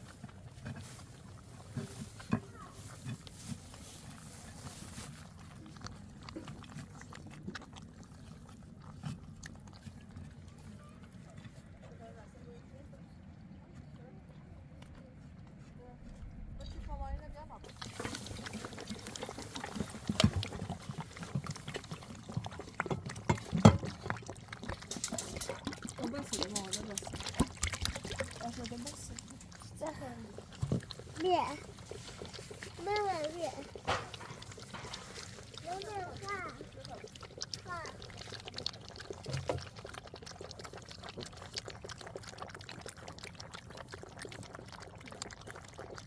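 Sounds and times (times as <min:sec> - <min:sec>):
liquid pouring and splashing: 0:00.0 - 0:11.2, 0:16.1 - 0:46.0.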